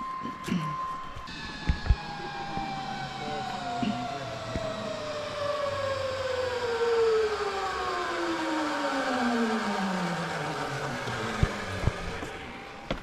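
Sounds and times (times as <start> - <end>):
pulley wheels whining on cable: 0.0 - 13.0.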